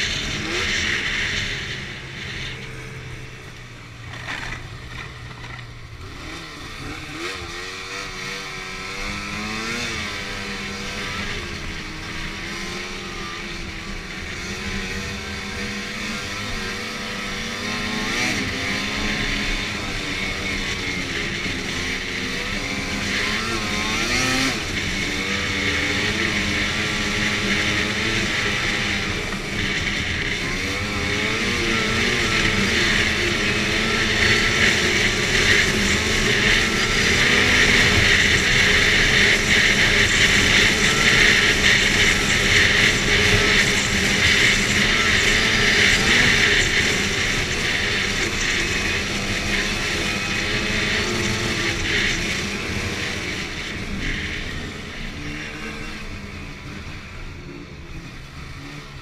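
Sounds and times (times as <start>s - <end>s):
snowmobile engine revving: 0.0s - 57.3s.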